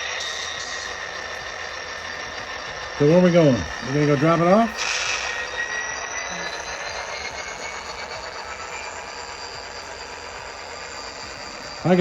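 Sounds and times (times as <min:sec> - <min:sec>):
faint high whine: 0:00.0 - 0:12.0
model train hum: 0:00.0 - 0:12.0.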